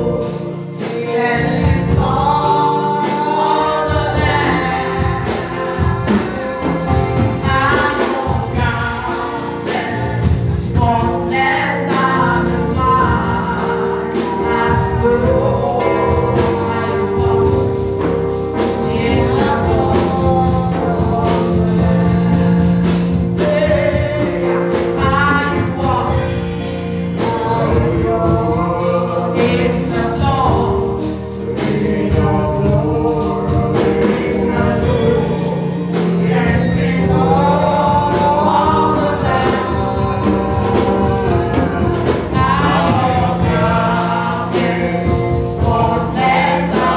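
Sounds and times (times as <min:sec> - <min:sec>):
gospel singing: 0:00.0 - 0:46.9
held keyboard chords: 0:00.0 - 0:46.9
steady beat: 0:00.0 - 0:46.9.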